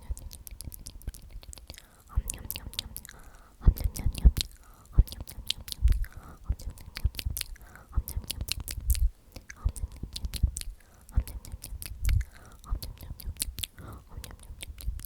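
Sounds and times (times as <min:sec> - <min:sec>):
close whispering: 0:00.0 - 0:15.0
wet mouth clicks: 0:00.0 - 0:15.0.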